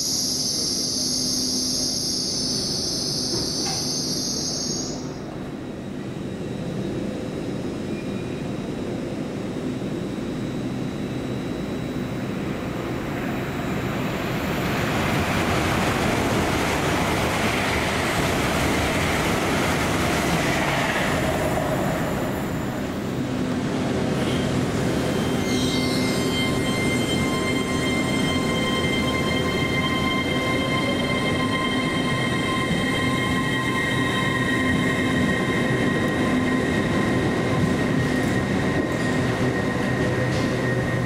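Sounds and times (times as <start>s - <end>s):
train wheels rushing on rail: 0.2s - 41.0s.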